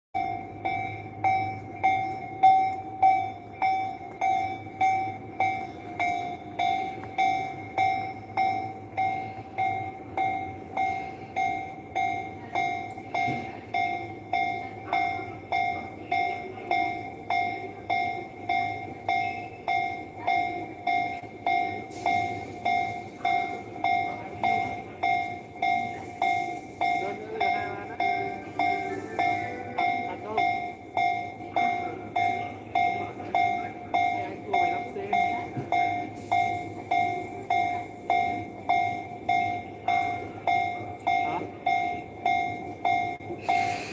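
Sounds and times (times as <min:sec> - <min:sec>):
level crossing warning bell ringing: 0:00.1 - 0:43.9.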